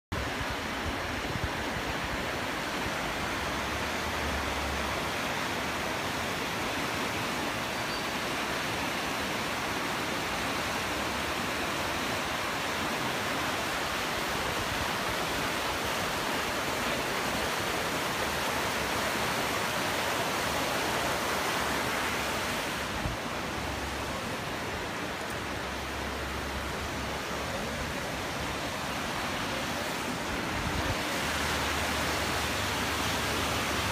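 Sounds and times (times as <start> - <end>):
river rushing over rocks: 0.2 - 33.9.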